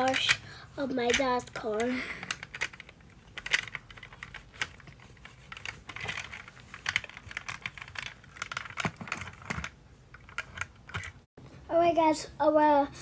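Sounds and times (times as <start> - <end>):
toy car on wooden floor: 0.0 - 11.2.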